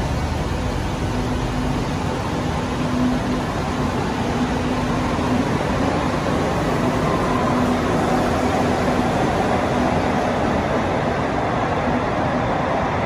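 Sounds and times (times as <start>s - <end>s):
train motor hum: 0.0s - 13.0s
train wheels rumbling on rails: 0.0s - 13.0s.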